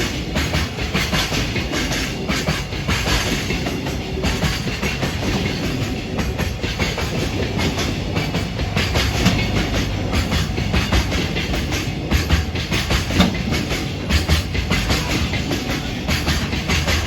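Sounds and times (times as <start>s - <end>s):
freight train rolling: 0.0s - 17.0s
wheels clattering over rail joints: 0.0s - 17.0s.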